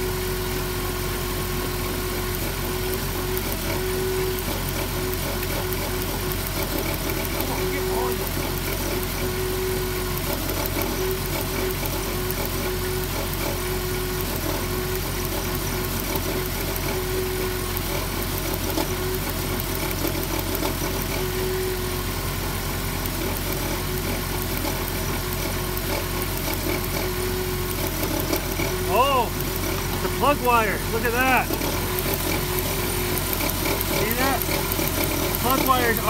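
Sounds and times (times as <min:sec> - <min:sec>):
car engine idling with misfire: 0:00.0 - 0:36.0.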